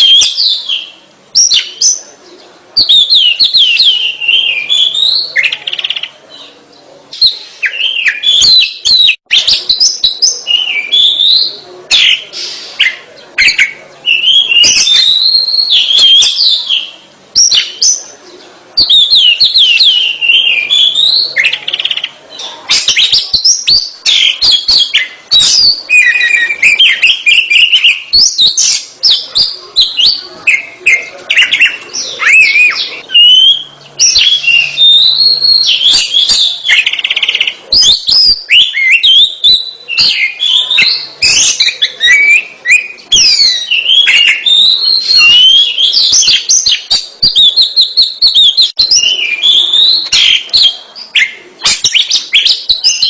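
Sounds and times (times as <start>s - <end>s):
songbird whistling and chattering: 0.0s - 53.0s.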